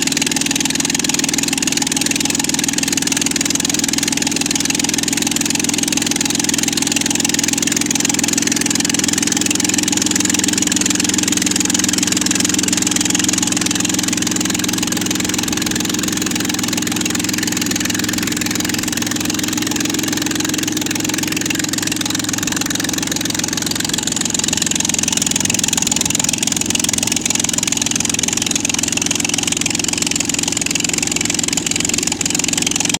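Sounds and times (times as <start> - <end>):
aircraft engine running: 0.0 - 32.9.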